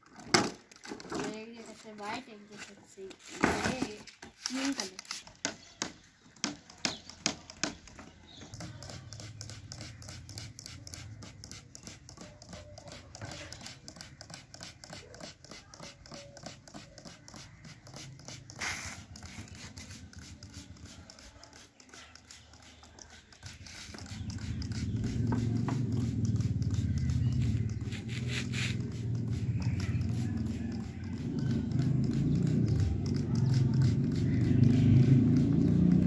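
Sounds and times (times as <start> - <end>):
trigger spray bottle spritzing: 1.4 - 36.0.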